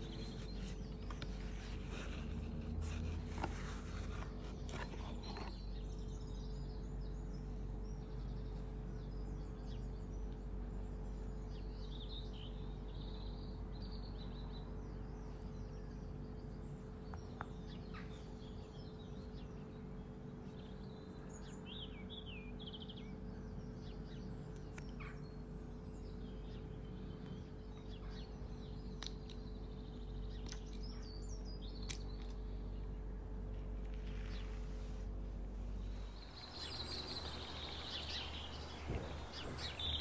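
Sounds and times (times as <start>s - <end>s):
small birds chirping: 0.0s - 40.0s
steady low hum: 0.0s - 40.0s.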